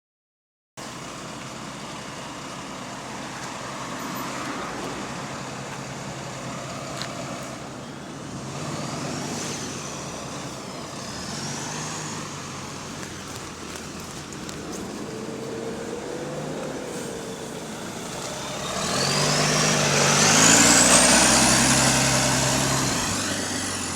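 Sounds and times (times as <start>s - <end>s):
bus engine running: 0.8s - 23.9s.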